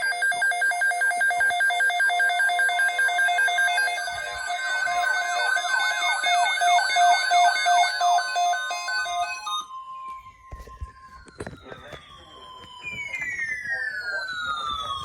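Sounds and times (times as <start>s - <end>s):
electronic alarm warble and sweeps: 0.1s - 15.0s.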